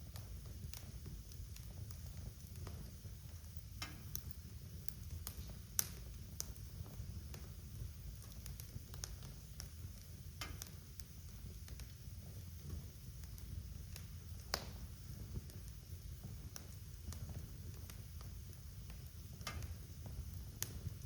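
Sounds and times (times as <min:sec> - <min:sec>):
fire crackles and pops: 0:00.0 - 0:21.0
flames rumbling: 0:00.0 - 0:21.0.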